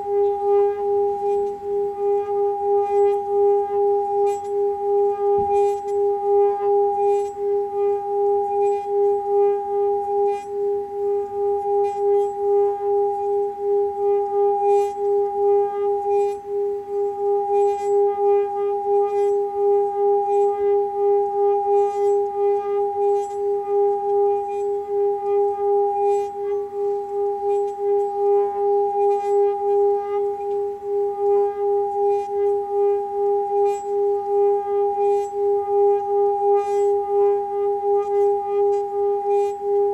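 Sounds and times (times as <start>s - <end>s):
singing bowl ringing tone: 0.0s - 39.9s.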